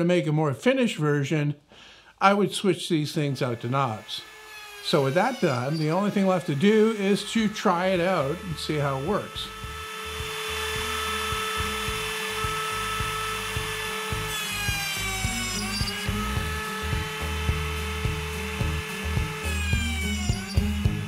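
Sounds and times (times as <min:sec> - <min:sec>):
router high whine: 0:03.1 - 0:21.0.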